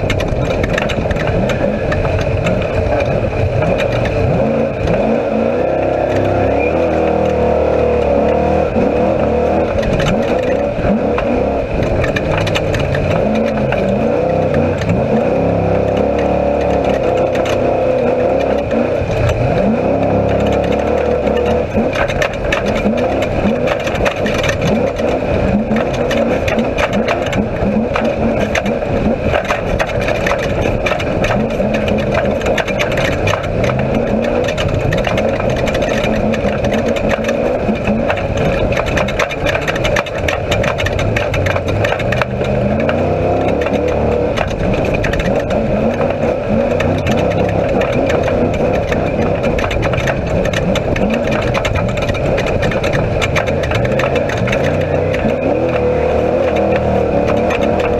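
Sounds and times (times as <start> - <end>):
chassis rattling: 0.0 - 57.9
race car engine: 0.0 - 57.9.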